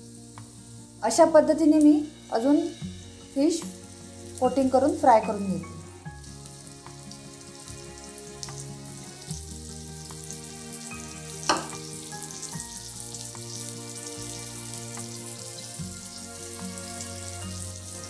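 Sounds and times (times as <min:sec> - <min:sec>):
background music with held notes: 0:00.0 - 0:18.0
oil sizzling and crackling: 0:00.0 - 0:18.0.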